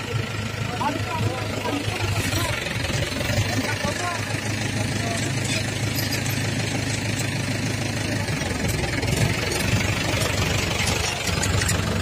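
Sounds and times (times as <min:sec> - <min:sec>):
engine idling drone: 0:00.0 - 0:12.0.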